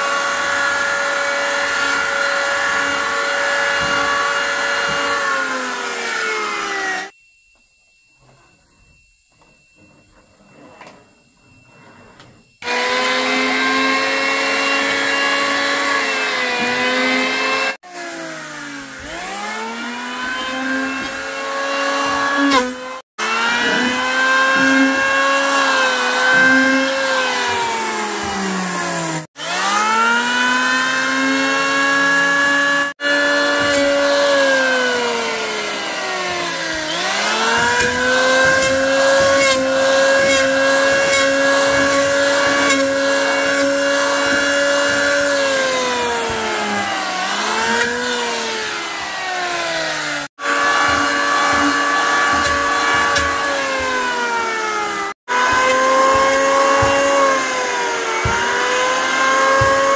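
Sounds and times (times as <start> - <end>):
power tool motor whine on wood: 0.0 - 59.9.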